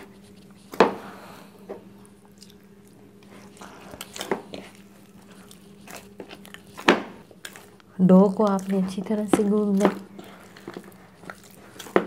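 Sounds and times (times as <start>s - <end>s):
hands kneading wet dough: 0.0s - 12.0s
low steady hum: 0.0s - 12.0s.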